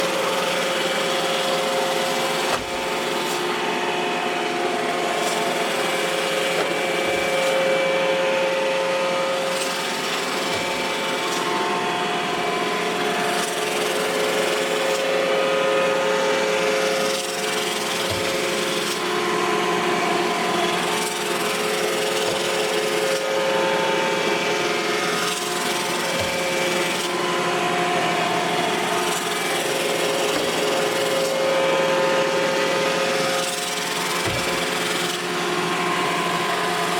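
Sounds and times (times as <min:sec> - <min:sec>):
robot vacuum whirring: 0:00.0 - 0:36.9.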